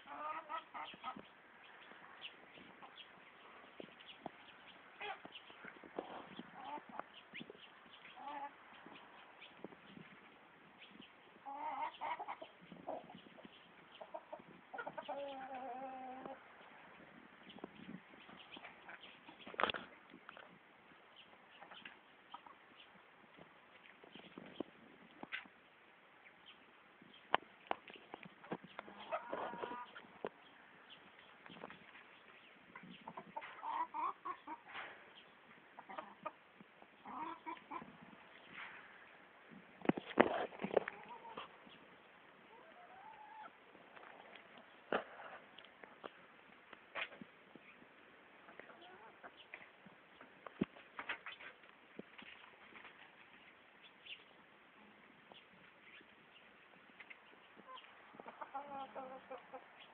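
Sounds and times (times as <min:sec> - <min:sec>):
chickens calling: 0:00.0 - 0:25.6, 0:26.2 - 0:39.2, 0:39.8 - 0:46.3, 0:46.9 - 0:59.9.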